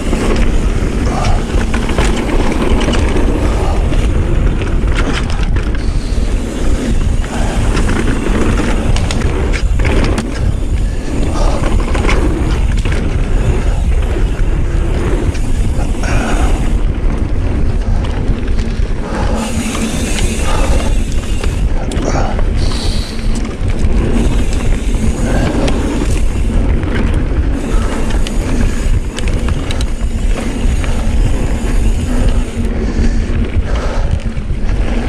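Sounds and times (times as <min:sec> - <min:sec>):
bike rattling over bumps: 0:00.0 - 0:35.0
tyres rolling over dirt: 0:00.0 - 0:35.0
wind rushing on microphone: 0:00.0 - 0:35.0.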